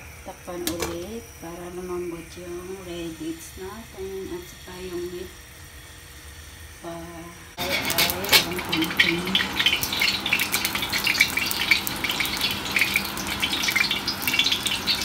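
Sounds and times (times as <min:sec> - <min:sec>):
oil sizzling in a wok: 0:00.0 - 0:15.0.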